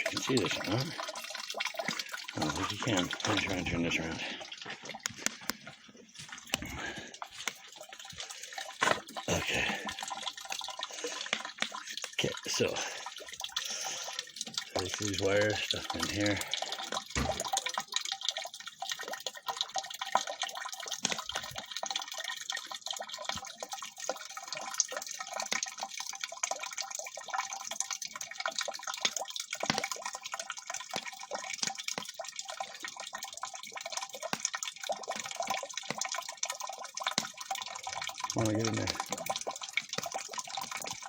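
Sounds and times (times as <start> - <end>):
hot water gurgling and spattering: 0.0 - 41.0.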